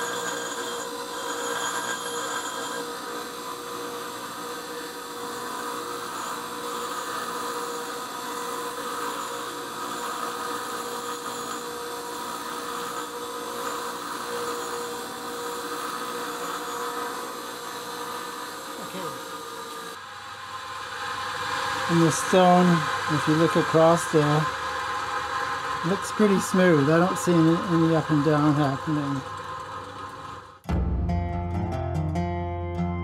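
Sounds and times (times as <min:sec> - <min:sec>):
bench grinder motor running: 0:00.0 - 0:30.6
grinding wheel hissing: 0:00.0 - 0:30.6.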